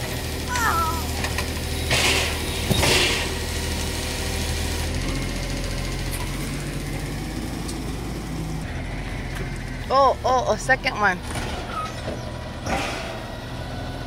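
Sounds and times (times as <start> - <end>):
garbage truck engine running: 0.0 - 14.0.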